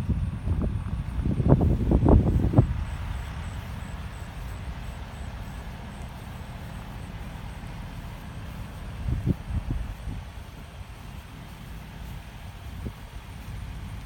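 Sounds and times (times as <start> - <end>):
fire truck engine idling: 0.0 - 14.0.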